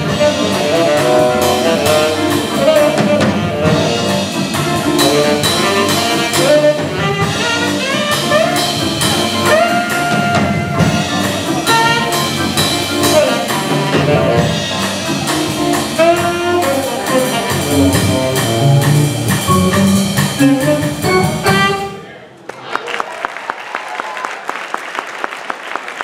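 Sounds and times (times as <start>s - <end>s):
drum cymbals: 0.0s - 22.0s
tenor saxophone: 0.0s - 22.1s.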